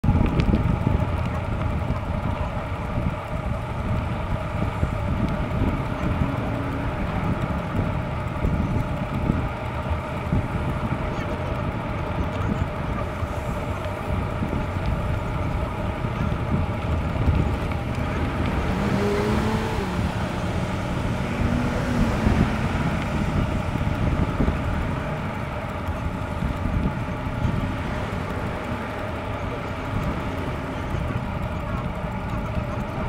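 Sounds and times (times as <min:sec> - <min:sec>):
road traffic noise: 0:00.0 - 0:33.0
wind rumbling on microphone: 0:00.0 - 0:33.0
passing vehicle engine: 0:02.8 - 0:33.0.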